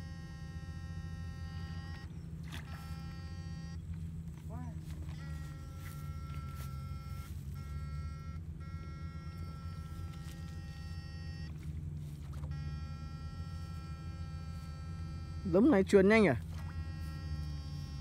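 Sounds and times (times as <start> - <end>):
electrofishing shocker buzzing: 0.0 - 18.0
high electronic whine: 0.0 - 18.0.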